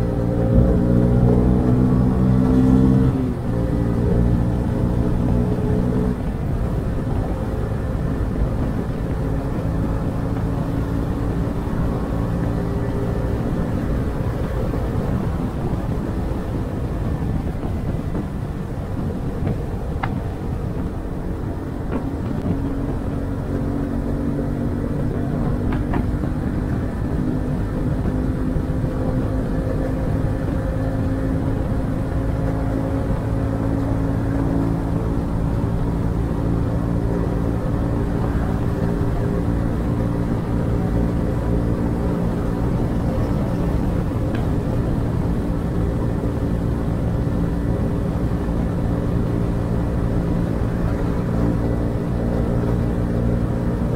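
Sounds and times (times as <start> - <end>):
motorcycle engine running: 0.0 - 53.9
wind rush on microphone: 0.0 - 53.9.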